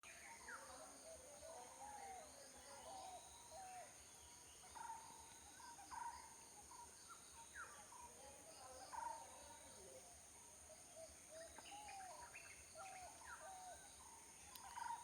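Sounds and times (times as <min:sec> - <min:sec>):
faint birds chirping: 0:00.1 - 0:15.0.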